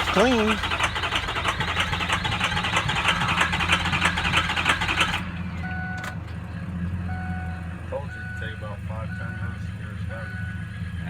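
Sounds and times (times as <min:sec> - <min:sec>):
diesel engine cranking on starter: 0:00.0 - 0:11.0.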